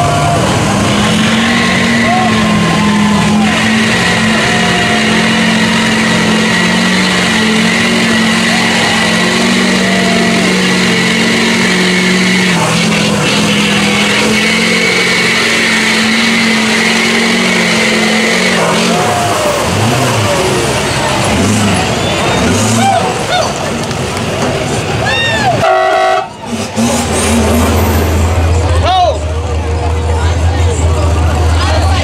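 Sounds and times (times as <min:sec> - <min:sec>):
truck engine at high revs: 0:00.0 - 0:32.0
tyres churning through mud: 0:00.0 - 0:32.0.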